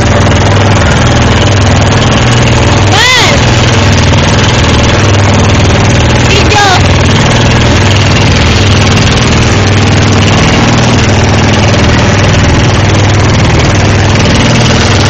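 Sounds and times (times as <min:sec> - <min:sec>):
boat engine running: 0:00.0 - 0:15.0
rush of wind and water: 0:00.0 - 0:15.0.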